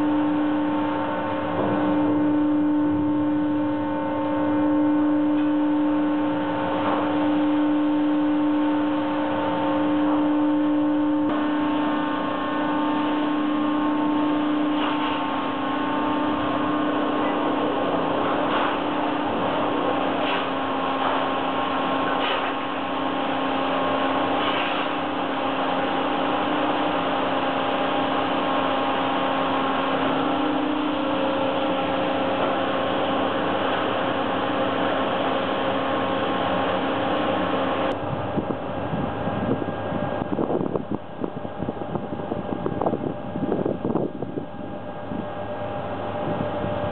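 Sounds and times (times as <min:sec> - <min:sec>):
heavy machinery humming: 0:00.0 - 0:46.9.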